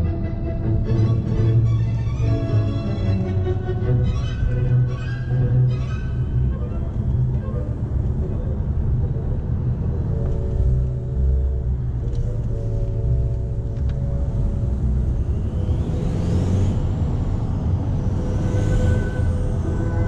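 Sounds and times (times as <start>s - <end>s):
diesel car engine in cabin: 3.2s - 20.0s.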